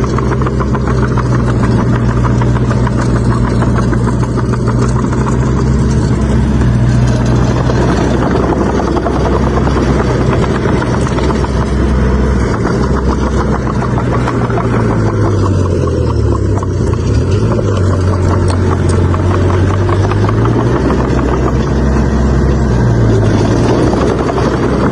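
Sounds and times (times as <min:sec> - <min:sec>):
heavy diesel engine running: 0:00.0 - 0:24.9.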